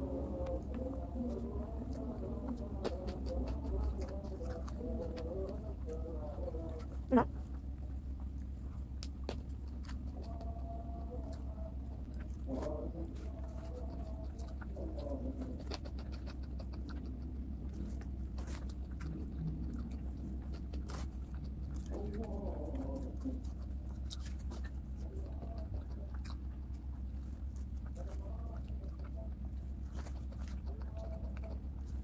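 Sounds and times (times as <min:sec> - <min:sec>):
chewing: 0:00.0 - 0:32.0
steady low hum: 0:00.0 - 0:32.0.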